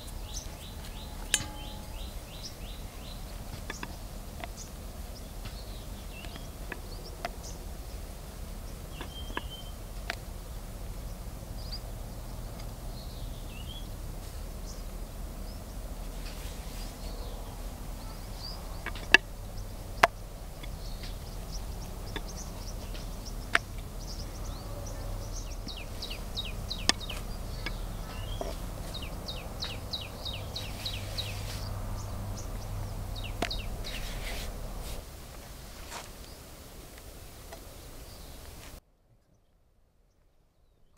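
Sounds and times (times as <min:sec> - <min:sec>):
fast high ticking call: 0:00.0 - 0:16.1, 0:16.9 - 0:35.0
birds chirping: 0:00.0 - 0:38.8.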